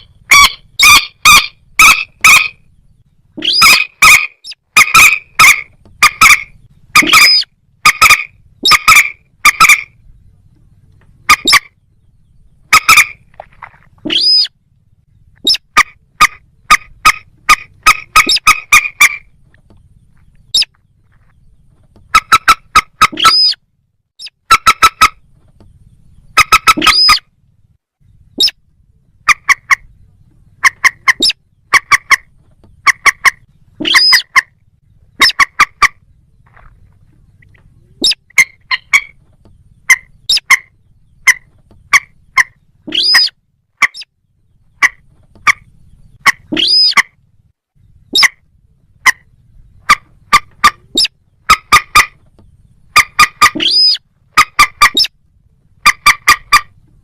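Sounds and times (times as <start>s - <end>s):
marsh birds rapid sharp calls: 0.0s - 57.0s.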